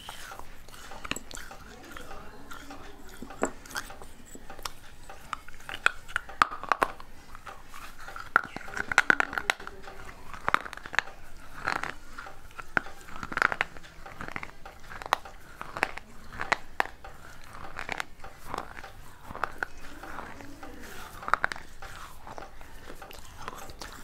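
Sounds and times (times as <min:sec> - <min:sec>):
grinding chews: 0:00.0 - 0:24.0
person crunching clay: 0:00.0 - 0:24.0.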